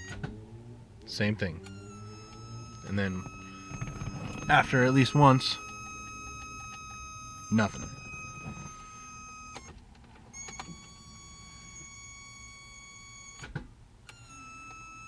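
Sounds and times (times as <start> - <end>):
fuel pump whining: 0.0 - 13.6.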